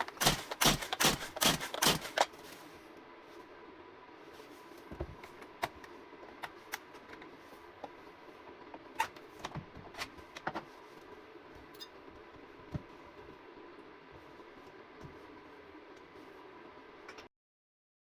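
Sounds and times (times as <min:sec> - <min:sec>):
faint steady hum: 0:00.0 - 0:17.3.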